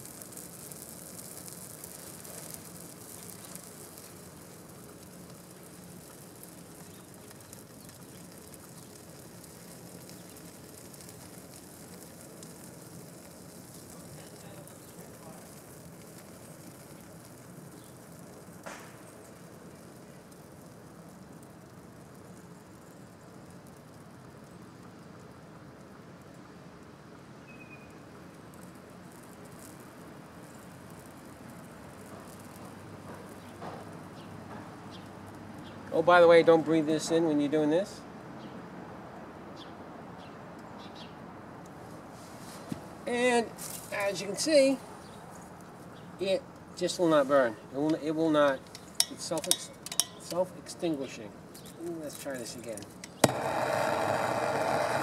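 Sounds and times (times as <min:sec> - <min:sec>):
dry leaves crackling in fire: 0:00.0 - 0:55.0.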